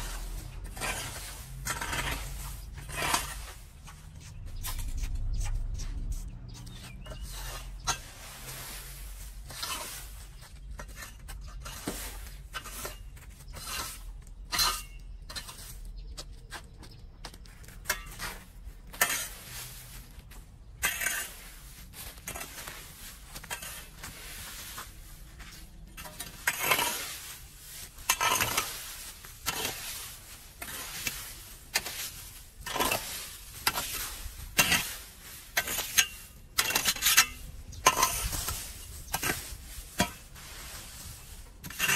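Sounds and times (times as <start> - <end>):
rake dragging dry leaves: 0.0 - 15.9, 17.5 - 41.9
rake tines scraping concrete: 0.0 - 16.7, 17.3 - 41.9.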